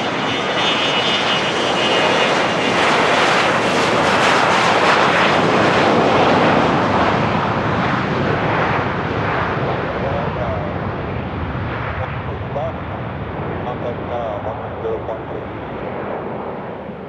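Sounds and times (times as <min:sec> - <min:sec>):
high turbine whine: 0:00.0 - 0:17.0
jet engine passing: 0:00.0 - 0:17.0.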